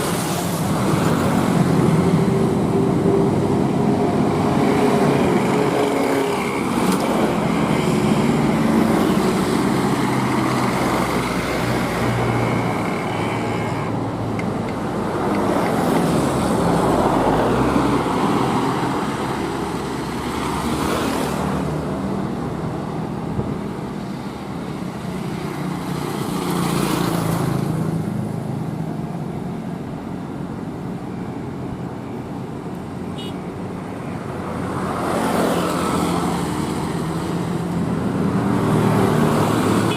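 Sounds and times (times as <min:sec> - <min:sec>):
diesel trucks labouring uphill: 0:00.0 - 0:39.9.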